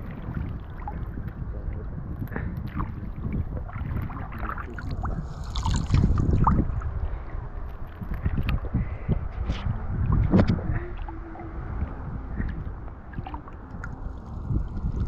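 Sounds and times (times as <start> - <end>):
water sloshing and splashing: 0.0 - 15.0
wind buffeting microphone: 0.0 - 15.0.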